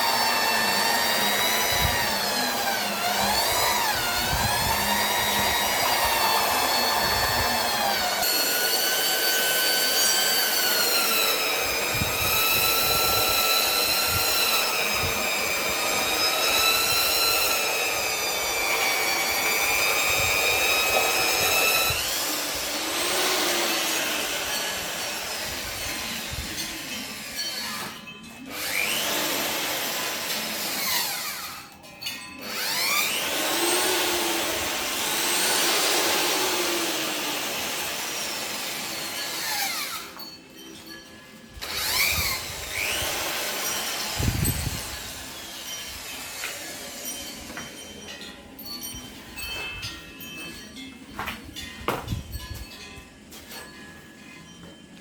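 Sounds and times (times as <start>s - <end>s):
power tool motor whining: 0.0s - 31.8s, 32.4s - 40.3s, 41.6s - 47.8s.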